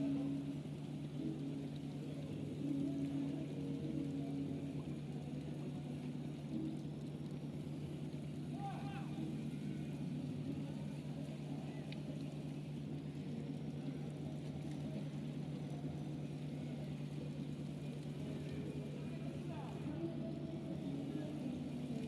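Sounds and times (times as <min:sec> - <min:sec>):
ship engines humming: 0:00.0 - 0:22.0.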